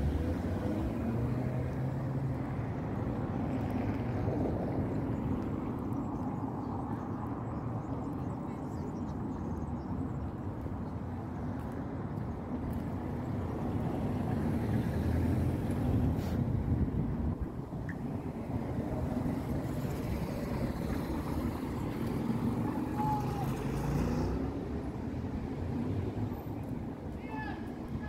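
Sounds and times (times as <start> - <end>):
passing motor vehicle rumble: 0.0 - 28.0.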